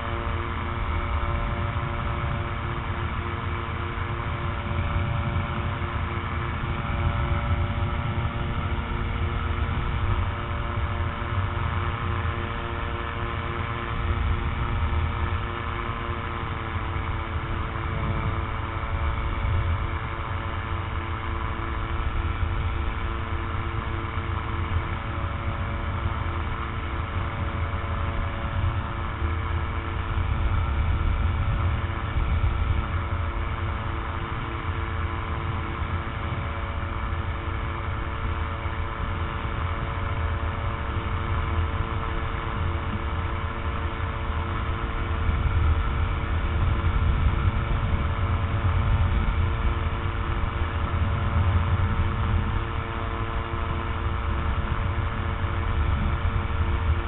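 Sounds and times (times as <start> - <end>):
propeller engine running: 0.0 - 57.0
wind rumble on microphone: 0.0 - 57.0.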